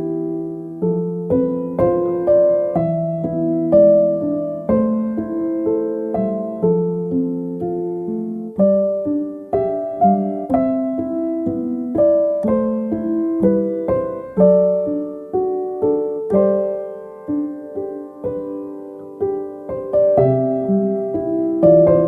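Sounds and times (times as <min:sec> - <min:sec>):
soft slow piano music: 0:00.0 - 0:22.0.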